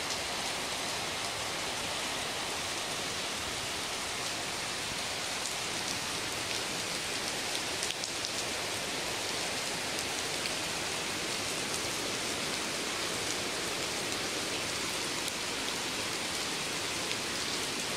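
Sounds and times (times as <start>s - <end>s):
heavy rain on standing water: 0.0s - 17.9s.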